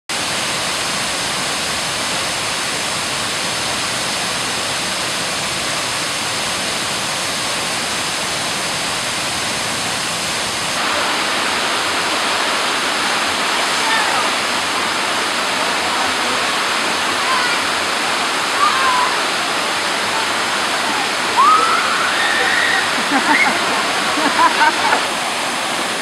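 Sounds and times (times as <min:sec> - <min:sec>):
waterfall rushing: 0:00.1 - 0:26.0.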